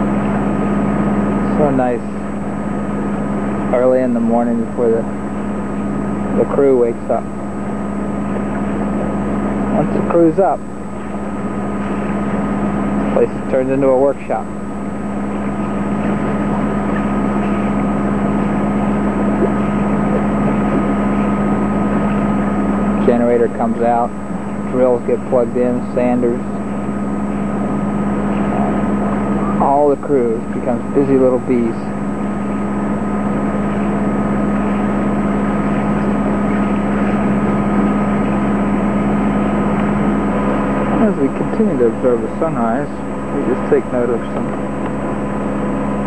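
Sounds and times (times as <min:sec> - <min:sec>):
boat diesel engine running: 0:00.0 - 0:46.0.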